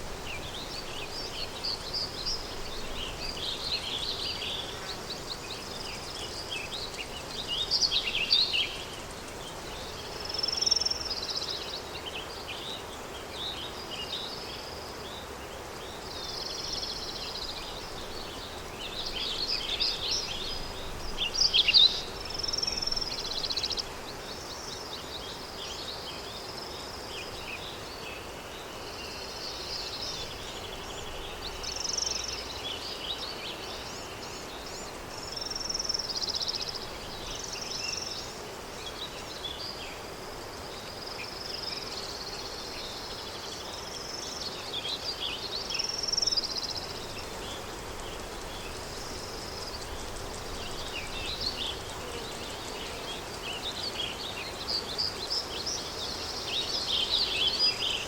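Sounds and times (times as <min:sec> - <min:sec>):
breeze hiss: 0:00.0 - 0:58.0
small birds chirping: 0:00.0 - 0:58.0.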